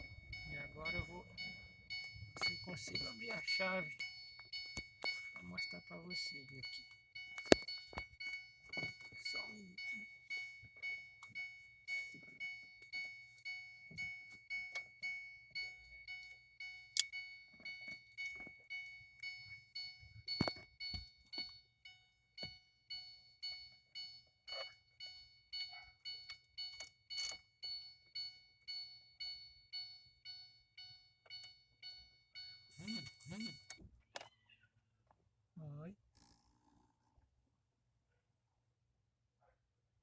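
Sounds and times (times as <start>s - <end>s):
dashboard warning chime beeping: 0.0s - 33.8s.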